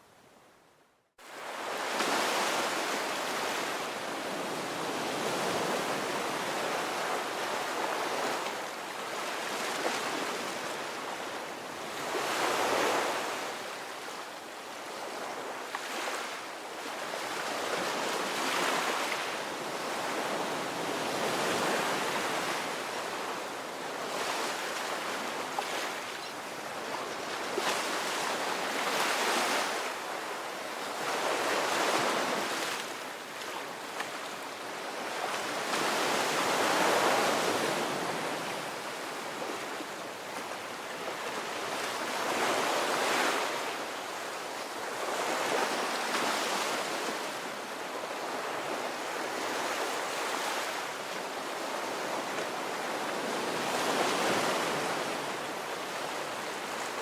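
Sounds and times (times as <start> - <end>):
ocean waves breaking on beach: 1.2 - 57.0.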